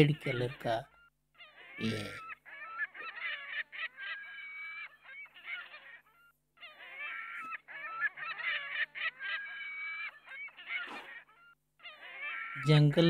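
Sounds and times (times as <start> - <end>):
flamingos honking: 0.0 - 13.0.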